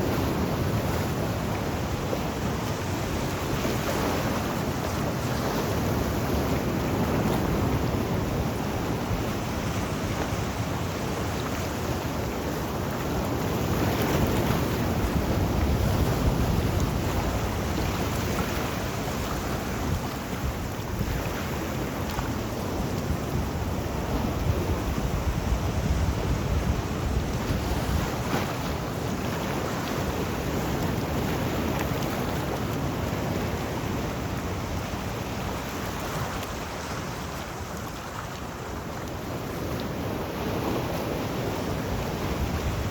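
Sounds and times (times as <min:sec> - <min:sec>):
sea waves surf: 0:00.0 - 0:42.9
wind rumble on microphone: 0:00.0 - 0:42.9.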